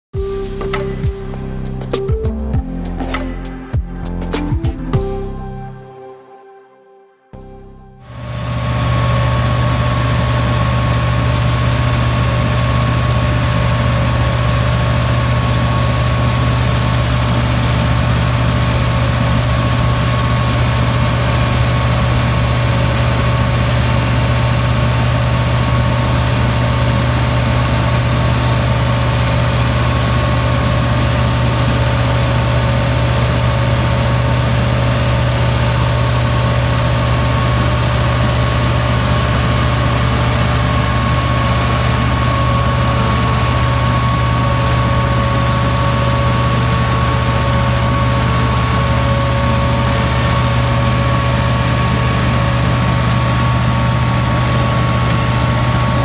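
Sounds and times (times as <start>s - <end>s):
tractor diesel engine running: 7.4s - 56.0s
straw chopper running: 8.1s - 56.0s.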